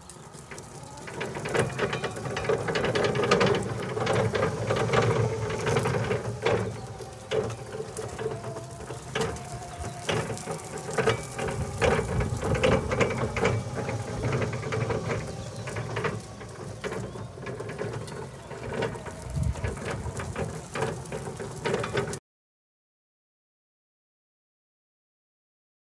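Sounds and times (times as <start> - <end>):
electric truck driving: 0.0 - 22.2
wheels clattering over paving joints: 0.0 - 22.2.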